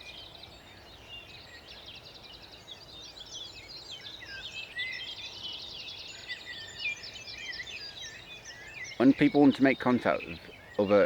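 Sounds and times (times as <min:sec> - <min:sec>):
songbirds singing: 0:00.0 - 0:11.0.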